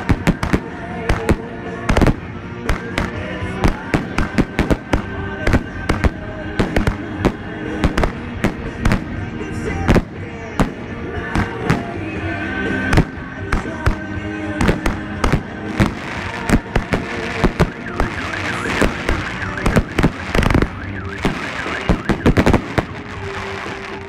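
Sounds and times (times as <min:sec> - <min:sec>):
firework bangs: 0:00.0 - 0:24.0.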